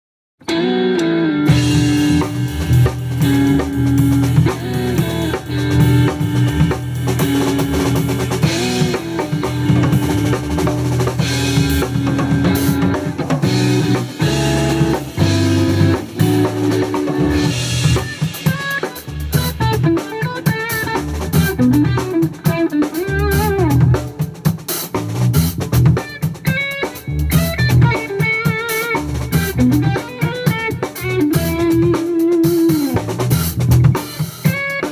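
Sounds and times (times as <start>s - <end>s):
bass guitar line: 0.4s - 34.9s
drum kit: 0.4s - 34.9s
electric guitar with wavering notes: 0.4s - 34.9s.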